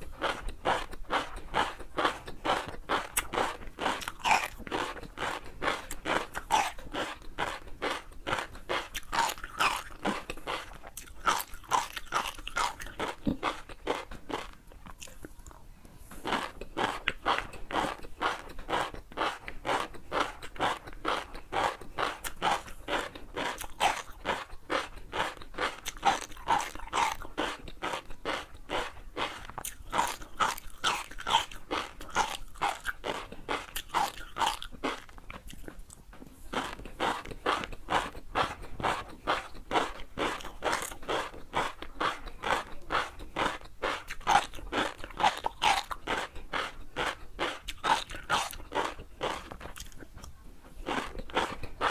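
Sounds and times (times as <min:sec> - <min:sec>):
crunchy chewing: 0:00.0 - 0:51.9.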